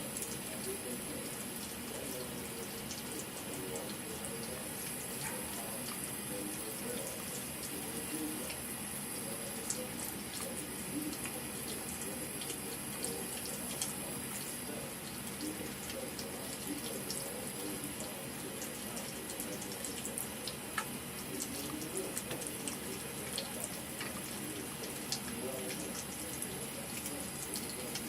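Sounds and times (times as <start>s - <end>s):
light ticks and splashes: 0.0s - 28.0s.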